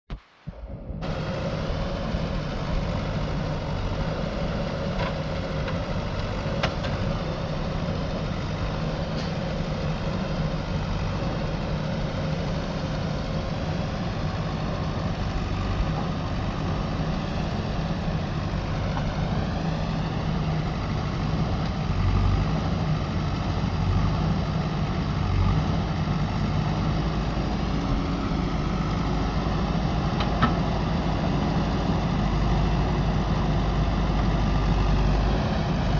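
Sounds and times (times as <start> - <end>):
diesel engine running: 0.4 - 35.9.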